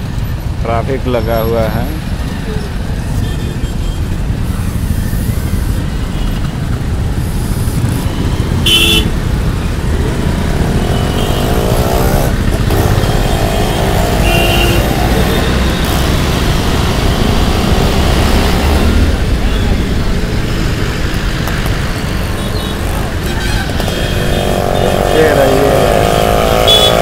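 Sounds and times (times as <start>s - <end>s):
traffic engines and road noise: 0.0s - 27.0s.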